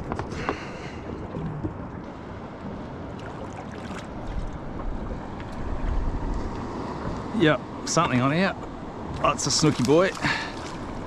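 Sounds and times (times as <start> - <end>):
sea washing around boat: 0.0 - 11.0
wind buffeting microphone: 0.0 - 11.0.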